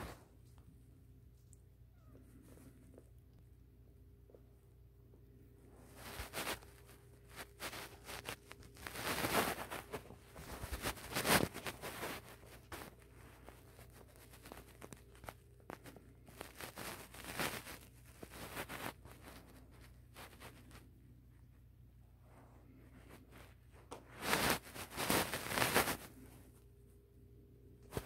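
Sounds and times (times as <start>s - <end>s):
kittens rustling on a blanket: 0.0s - 27.0s, 27.6s - 28.0s.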